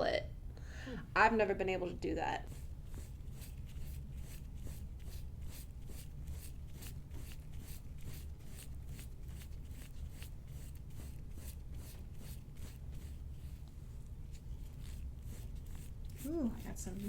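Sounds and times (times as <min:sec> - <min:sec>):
rubbing strokes over skin: 0:02.4 - 0:17.0.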